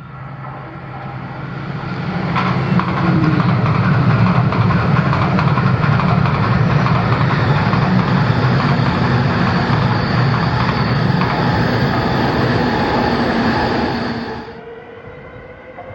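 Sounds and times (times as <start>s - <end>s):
train wheels rumbling on rail: 0.0s - 14.6s.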